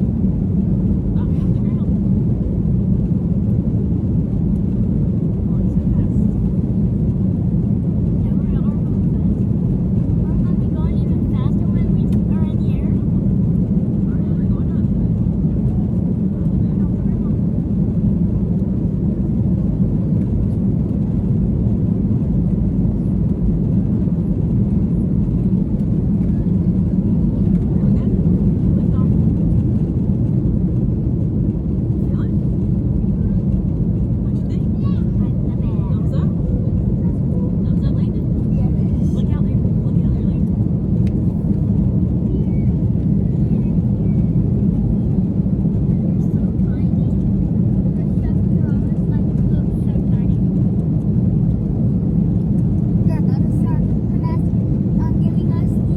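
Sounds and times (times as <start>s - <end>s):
jet engine cabin rumble: 0.0s - 55.9s.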